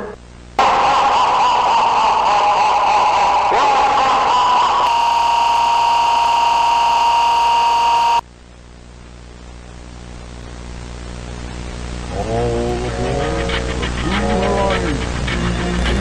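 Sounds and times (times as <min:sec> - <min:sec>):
high-pitched whine: 0:00.0 - 0:08.3, 0:11.2 - 0:16.0.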